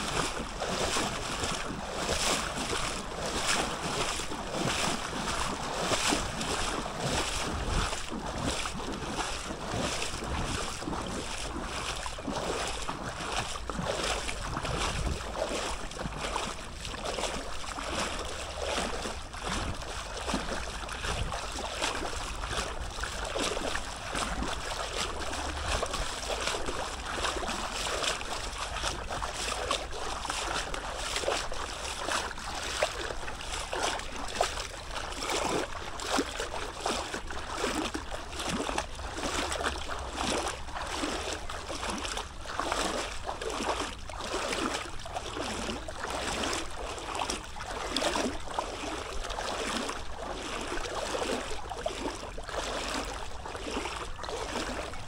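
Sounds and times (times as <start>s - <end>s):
floodwater rushing and splashing: 0.0s - 55.0s.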